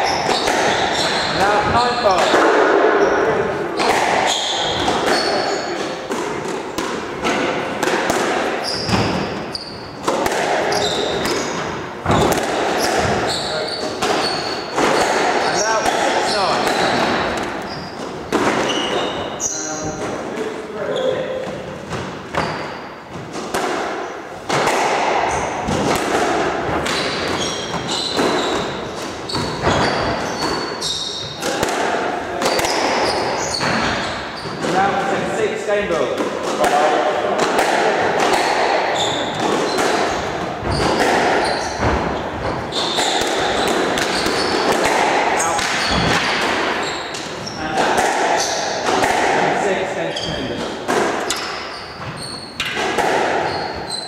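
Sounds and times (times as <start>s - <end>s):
squash ball cracking off walls: 0.0s - 3.0s, 3.7s - 19.2s, 21.6s - 35.2s, 36.0s - 49.6s, 50.4s - 53.9s
shoes squeaking on wooden floor: 0.0s - 7.6s, 8.2s - 23.5s, 26.6s - 31.6s, 32.4s - 35.5s, 38.4s - 49.0s, 49.8s - 54.0s.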